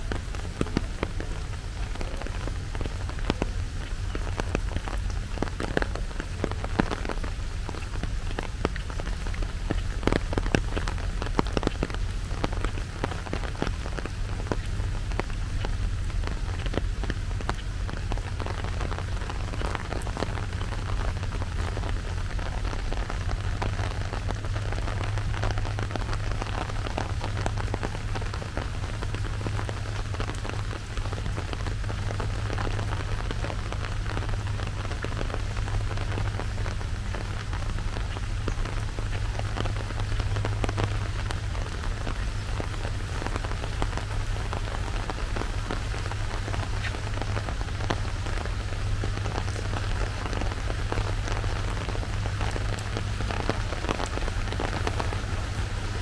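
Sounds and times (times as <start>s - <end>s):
rain falling: 0.0s - 56.0s
sharp raindrop taps: 0.0s - 56.0s.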